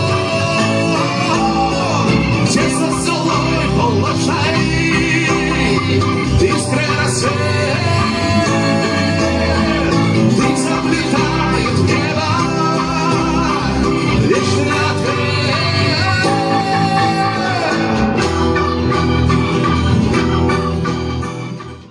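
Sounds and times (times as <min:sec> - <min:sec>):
live band instrumental music: 0:00.0 - 0:21.9.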